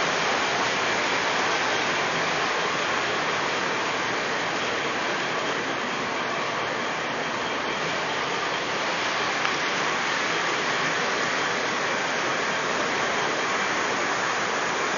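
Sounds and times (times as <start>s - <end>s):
rushing hiss of room noise: 0.0s - 14.9s.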